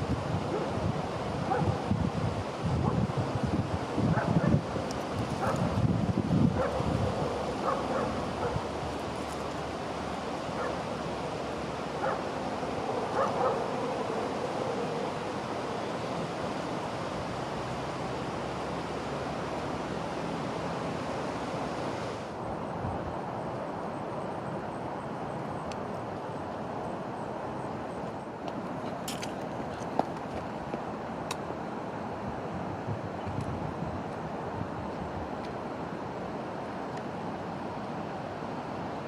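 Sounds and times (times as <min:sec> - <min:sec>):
wind blowing over microphone: 0:00.0 - 0:28.8, 0:29.5 - 0:39.0.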